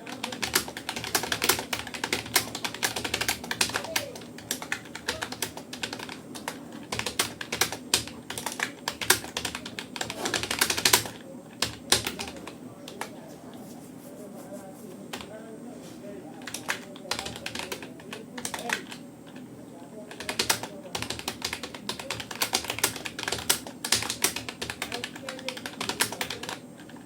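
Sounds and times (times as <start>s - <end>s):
keyboard typing clicks: 0.0s - 13.2s, 16.4s - 19.4s, 20.1s - 27.0s.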